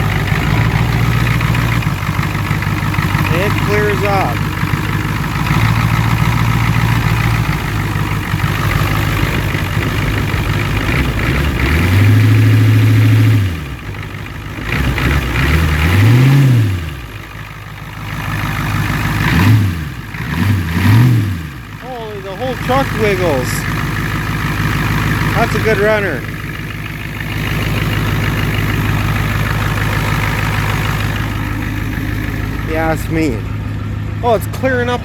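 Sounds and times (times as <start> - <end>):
diesel engine idling and revving: 0.0 - 35.0.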